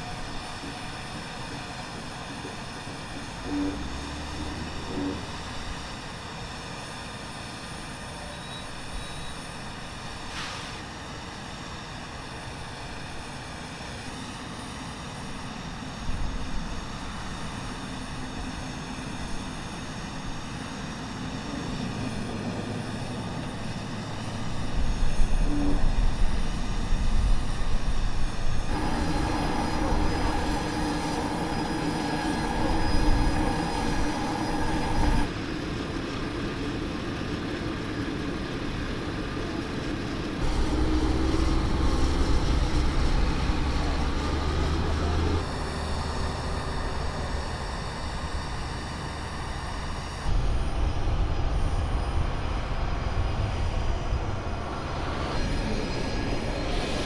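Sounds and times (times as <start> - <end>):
diesel truck engine rumbling: 0.0 - 6.9, 16.0 - 57.0
machinery whine over low rumble: 0.0 - 57.0.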